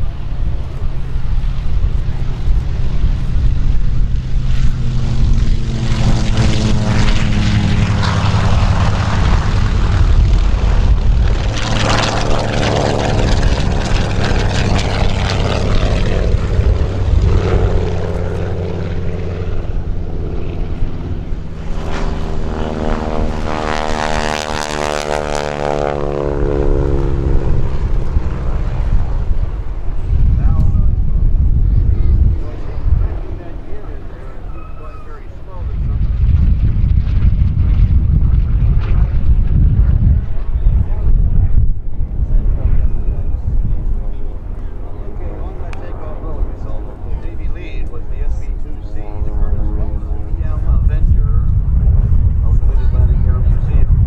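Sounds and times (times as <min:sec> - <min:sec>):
piston aircraft engines droning: 0:00.0 - 0:54.0
plane passing swish: 0:00.0 - 0:54.0.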